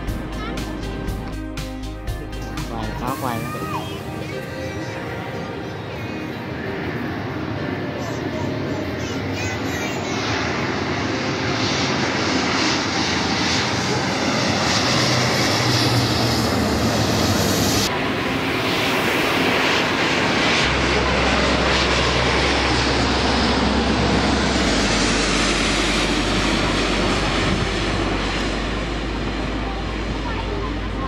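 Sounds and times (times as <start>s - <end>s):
jet engine roar overhead: 0.0s - 2.0s, 2.6s - 31.0s.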